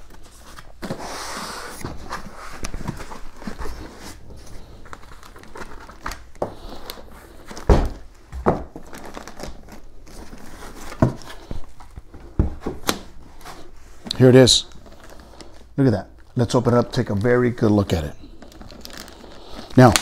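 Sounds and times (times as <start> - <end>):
plastic wrap crinkling: 1.6 - 12.1, 12.8 - 20.0.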